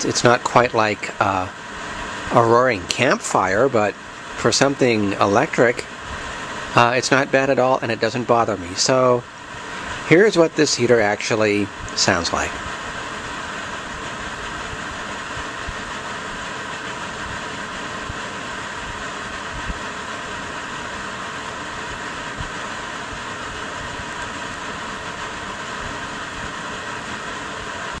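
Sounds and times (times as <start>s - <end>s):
heater fan whoosh: 0.0s - 28.0s.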